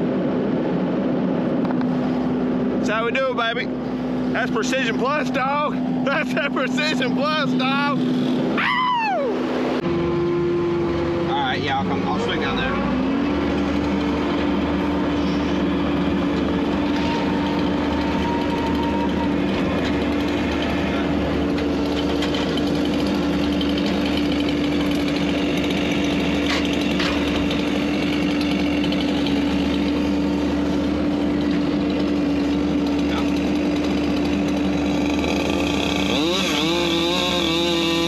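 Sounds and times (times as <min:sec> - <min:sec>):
heavy equipment engine running: 0:00.0 - 0:08.6, 0:09.2 - 0:38.0.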